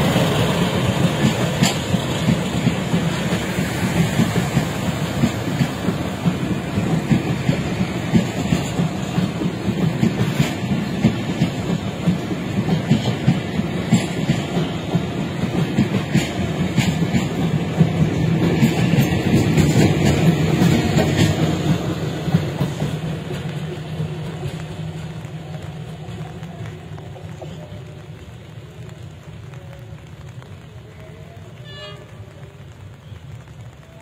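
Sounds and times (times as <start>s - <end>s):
train wheels rumbling on rail: 0.0s - 34.0s
wheels clickety-clack over rail joints: 0.0s - 34.0s.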